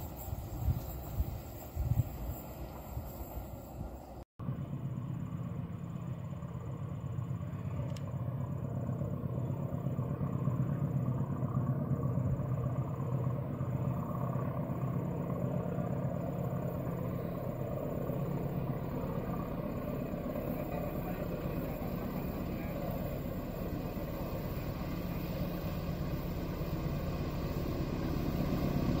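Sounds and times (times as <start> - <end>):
distant diesel train rumble: 0.0 - 29.0.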